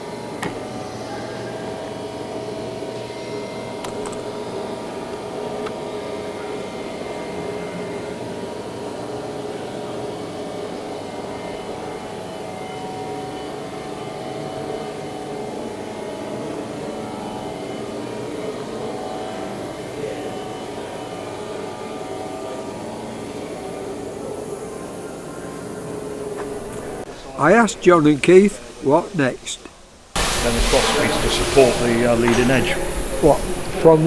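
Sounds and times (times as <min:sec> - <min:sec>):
workshop background hum: 0:00.0 - 0:34.0.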